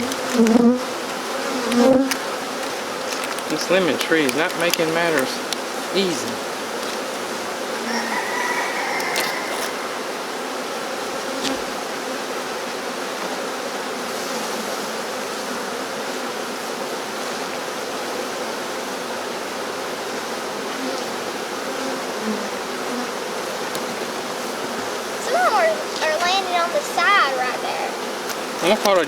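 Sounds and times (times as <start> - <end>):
bee swarm buzzing: 0.0 - 29.0.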